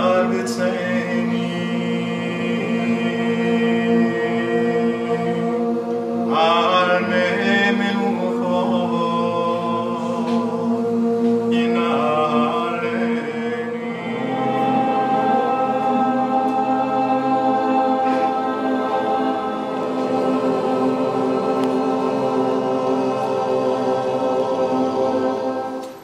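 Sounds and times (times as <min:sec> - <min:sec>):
voice singing wavering melody: 0:00.0 - 0:26.0
voices chanting long notes: 0:00.0 - 0:26.0.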